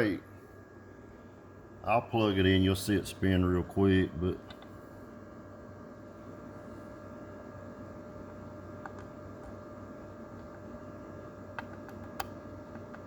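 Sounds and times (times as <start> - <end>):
cooling fan humming: 0.0 - 13.0.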